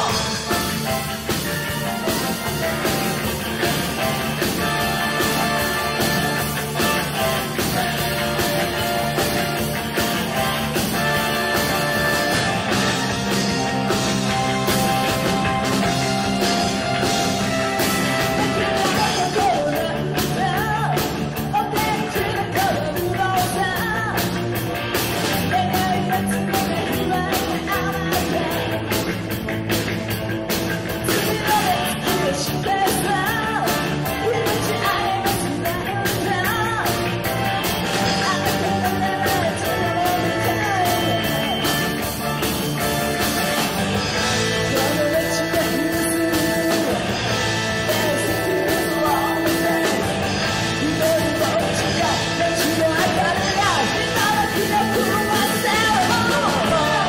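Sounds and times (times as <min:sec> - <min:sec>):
person singing lead vocals: 0:00.0 - 0:24.5, 0:25.2 - 0:29.2, 0:31.0 - 0:57.0
live rock band playing: 0:00.0 - 0:57.0.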